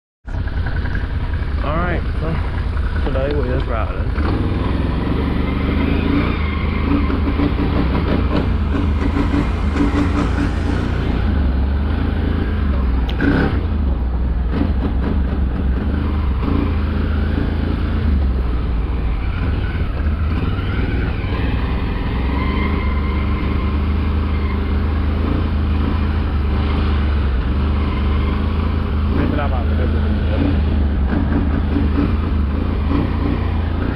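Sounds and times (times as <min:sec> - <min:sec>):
vehicle engine rumbling: 0:00.2 - 0:33.9.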